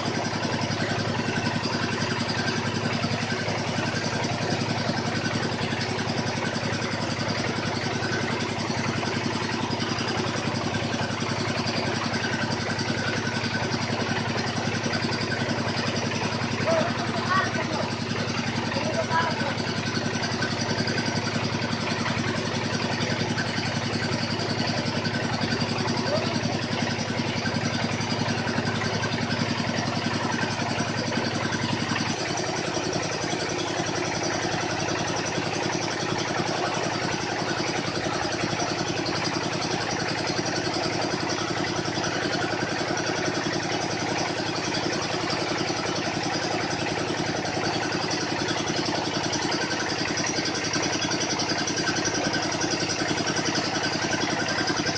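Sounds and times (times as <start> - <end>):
drilling machine engine running: 0.0 - 54.9.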